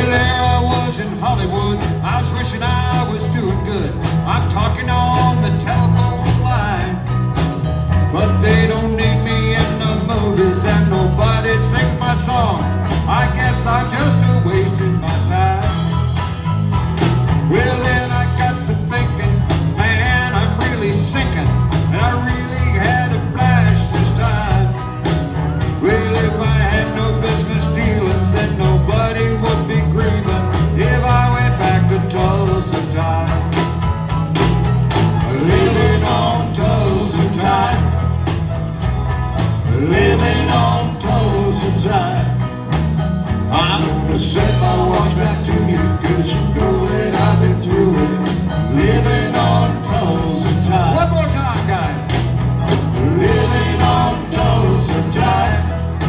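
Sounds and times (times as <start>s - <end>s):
bass guitar: 0.0s - 56.0s
electric guitars: 0.0s - 56.0s
steady drum beat: 0.0s - 56.0s.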